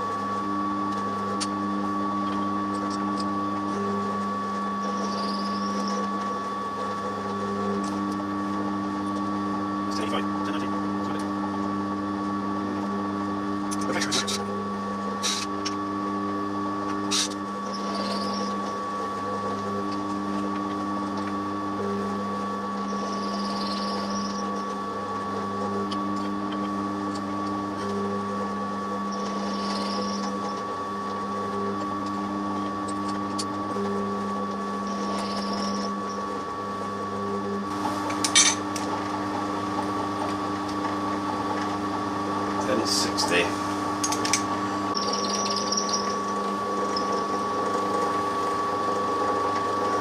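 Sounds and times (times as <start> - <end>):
milling machine running: 0.0 - 50.0.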